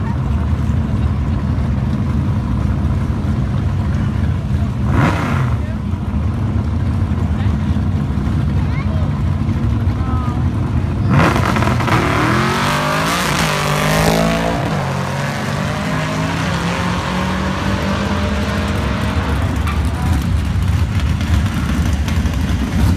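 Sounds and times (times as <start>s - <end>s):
drag car engines revving hard: 0.0s - 22.9s.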